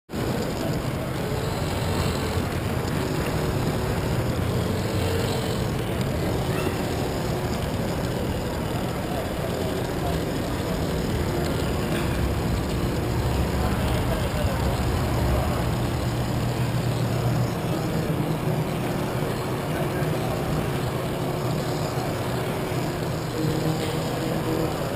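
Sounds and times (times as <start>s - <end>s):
toy train motor running: 0.2s - 24.9s.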